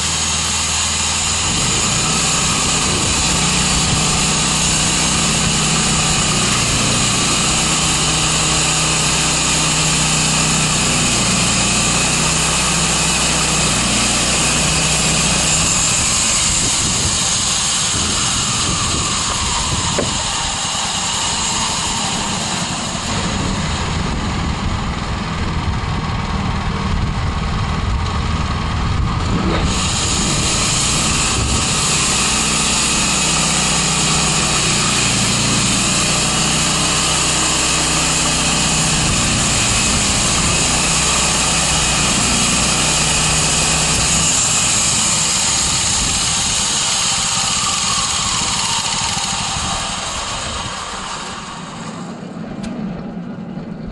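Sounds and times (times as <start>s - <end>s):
bright hiss: 0.0s - 25.0s, 29.6s - 52.3s
sawmill petrol engine running: 0.0s - 53.9s.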